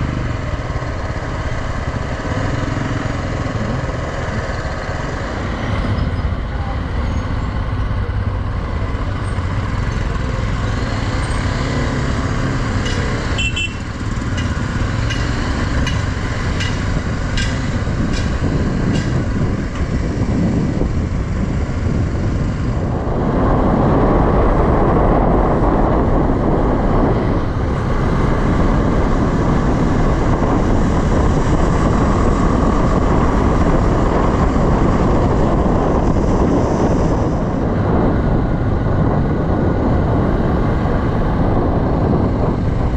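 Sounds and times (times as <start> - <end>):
motorcycle engine running: 0.0 - 42.9
wind noise: 0.0 - 42.9.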